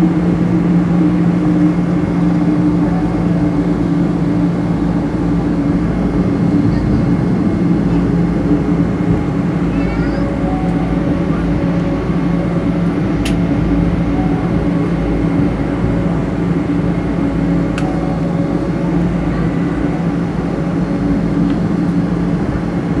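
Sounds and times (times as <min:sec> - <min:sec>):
aircraft engines idling: 0:00.0 - 0:23.0
steady low hum: 0:00.0 - 0:23.0.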